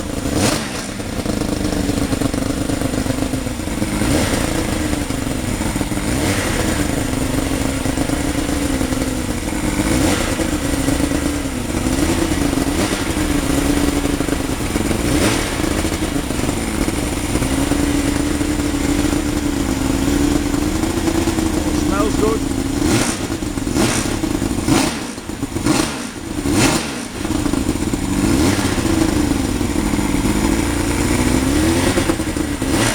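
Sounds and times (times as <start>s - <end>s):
outboard engine running: 0.0s - 32.9s.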